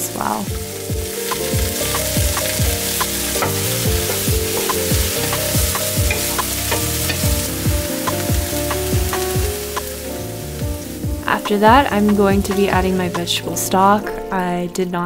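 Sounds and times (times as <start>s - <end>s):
vegetables sizzling in oil: 0.0s - 13.8s
background music with beat: 0.5s - 13.5s
stirring in a pan: 0.8s - 13.3s.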